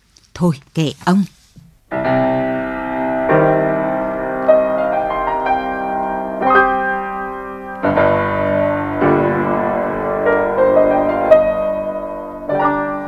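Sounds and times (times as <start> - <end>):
slow solo piano: 1.9 - 13.0.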